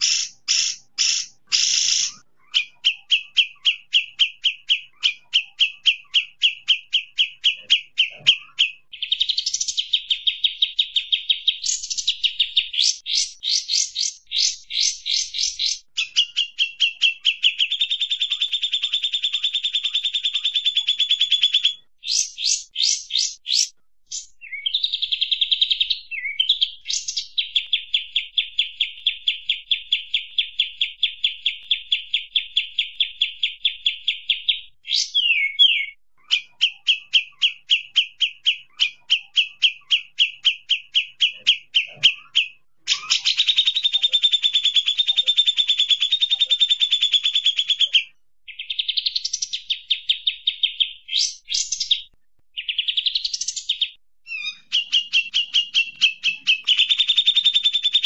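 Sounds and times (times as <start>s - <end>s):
bird song rapid high notes: 0.0s - 58.0s
buzzy bird chatter: 0.0s - 58.0s.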